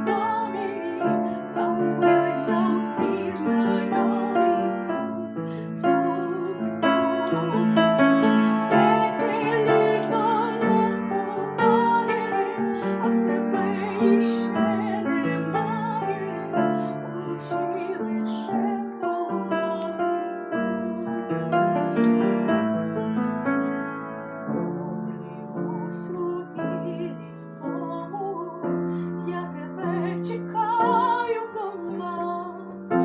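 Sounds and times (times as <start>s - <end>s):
woman singing with vibrato: 0.0s - 7.3s, 8.5s - 21.4s, 24.7s - 33.0s
piano accompaniment: 0.0s - 33.0s.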